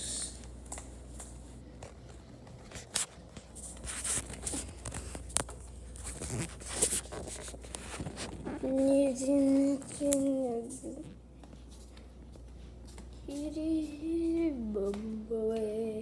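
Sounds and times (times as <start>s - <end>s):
barefoot footsteps on tiles: 0.0s - 15.8s.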